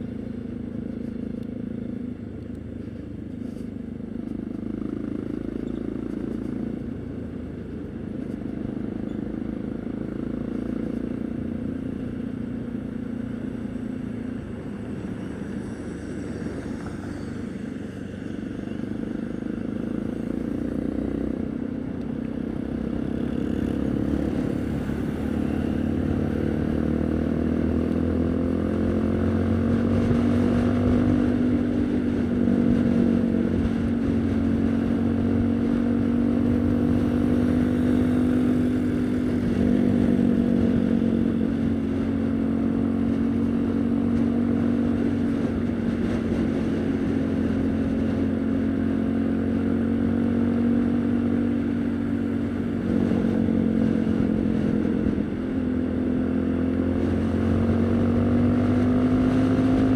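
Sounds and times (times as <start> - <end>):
motorcycle engine running: 0.0 - 59.9
road rumble: 0.0 - 59.9
wind: 0.0 - 59.9.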